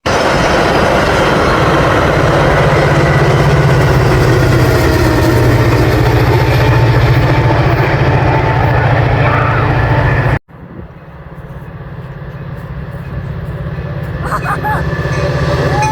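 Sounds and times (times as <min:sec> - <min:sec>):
locomotive engine droning: 0:00.0 - 0:15.9.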